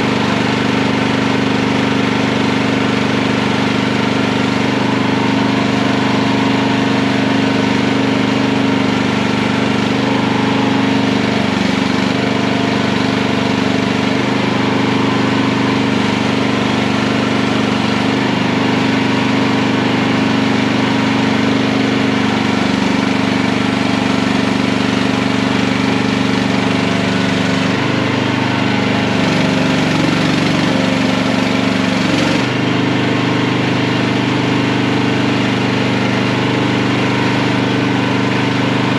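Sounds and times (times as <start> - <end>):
skid steer engine running: 0.0 - 38.9.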